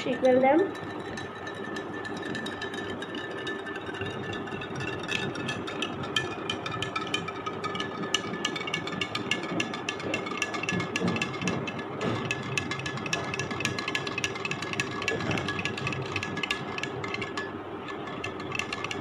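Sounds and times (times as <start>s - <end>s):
spoon clinking against glass: 0.0s - 19.0s.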